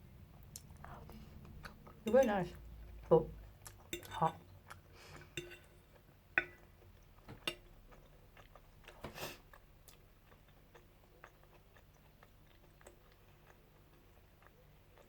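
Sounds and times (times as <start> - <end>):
person chewing: 0.3 - 15.0.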